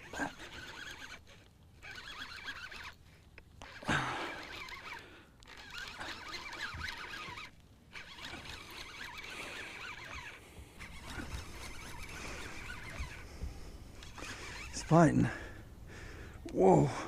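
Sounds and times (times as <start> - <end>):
fishing reel ratcheting: 0.0 - 15.5.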